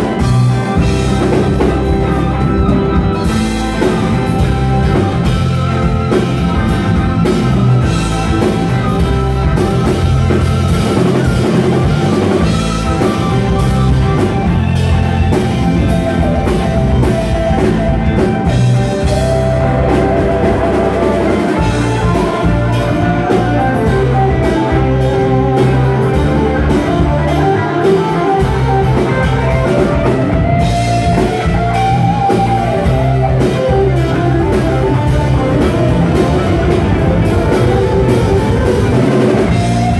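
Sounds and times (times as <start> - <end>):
rock band playing loudly: 0.0 - 39.9
wavering melodic guitar line: 0.0 - 39.9.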